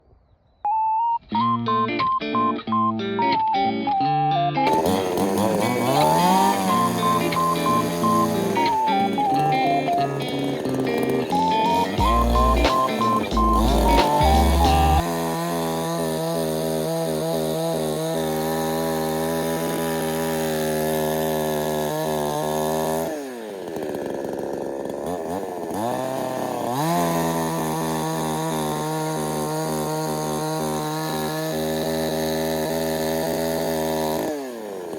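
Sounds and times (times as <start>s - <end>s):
chainsaw cutting logs: 4.6s - 34.9s.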